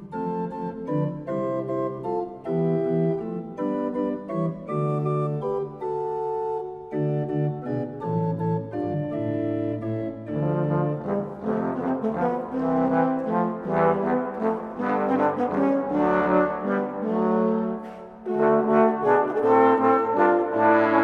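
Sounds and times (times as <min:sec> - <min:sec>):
organ playing chords: 0:00.0 - 0:21.0.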